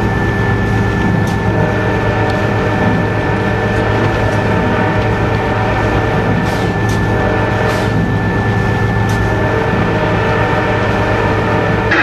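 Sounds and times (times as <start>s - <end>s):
locomotive engine hum: 0.0s - 12.0s
thin steady whine: 0.0s - 12.0s.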